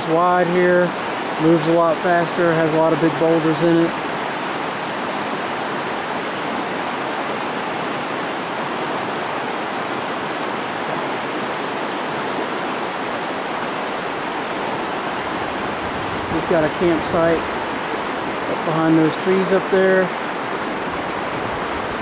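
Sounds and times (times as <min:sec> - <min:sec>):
creek rushing over boulders: 0:00.0 - 0:22.0.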